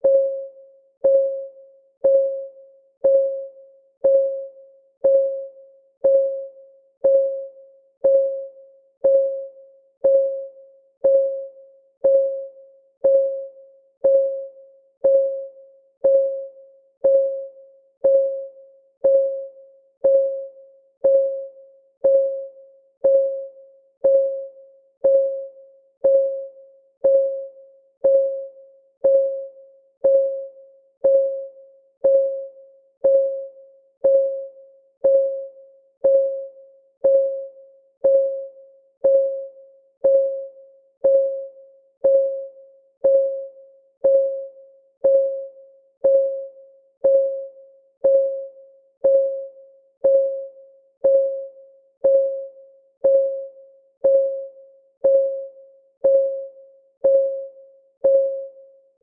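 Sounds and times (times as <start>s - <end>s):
timer ticking: 0.0s - 58.6s.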